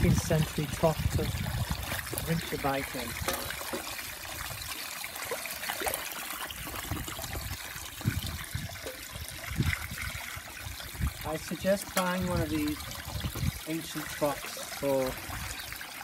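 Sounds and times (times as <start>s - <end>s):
water trickling and sloshing: 0.0s - 16.0s.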